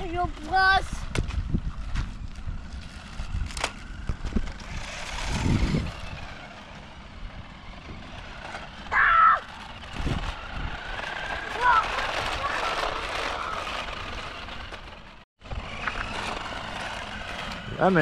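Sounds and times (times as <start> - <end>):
toy car electric motor whining: 0.0 - 18.0.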